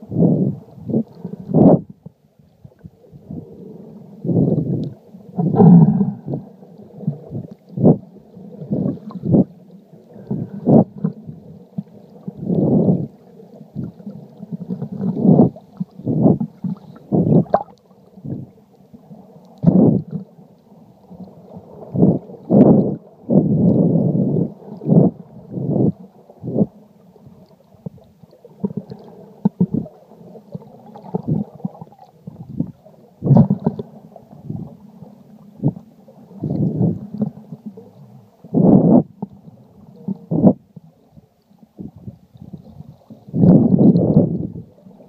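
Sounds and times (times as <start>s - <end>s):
muffled underwater sloshing: 0.0s - 45.0s.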